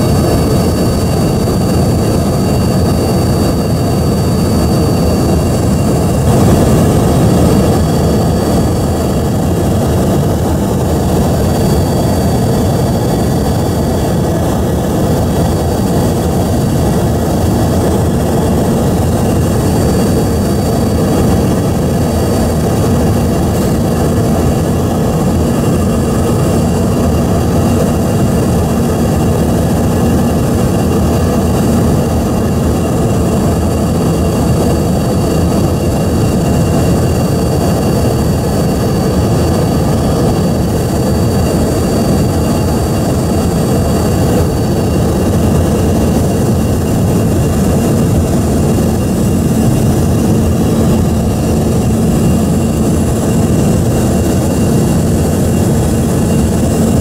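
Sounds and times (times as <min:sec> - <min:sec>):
jet engine cabin rush: 0:00.0 - 0:57.0
thin high whine: 0:00.0 - 0:57.0.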